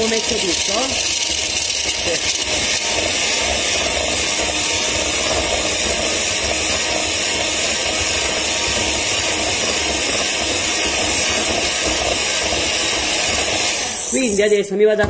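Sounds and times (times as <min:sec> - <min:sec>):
electric hand mixer whipping batter: 0:00.0 - 0:14.8.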